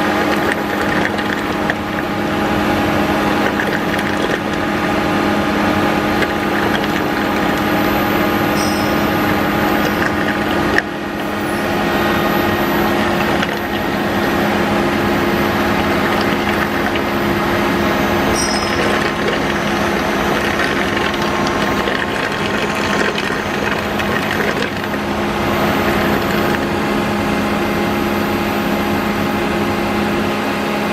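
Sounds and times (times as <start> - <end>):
pump motor humming: 0.0 - 30.9.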